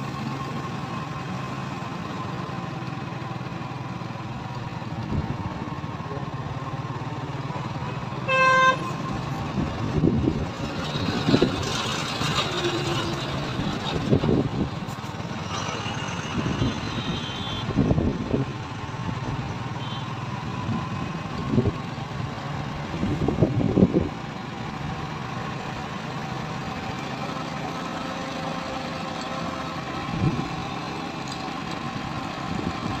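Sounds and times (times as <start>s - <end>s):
vehicle engine hum and road noise: 0.0s - 33.0s.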